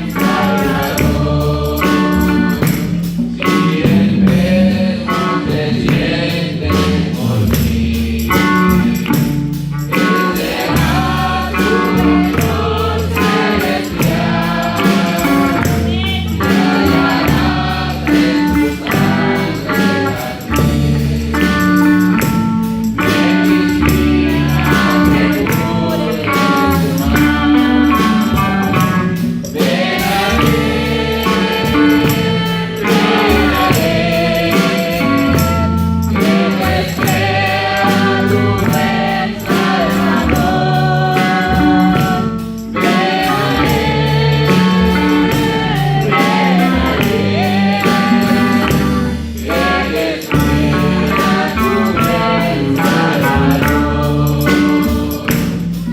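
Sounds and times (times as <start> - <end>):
instruments with percussion: 0.0 - 55.9
men's group singing a hymn: 0.0 - 55.9.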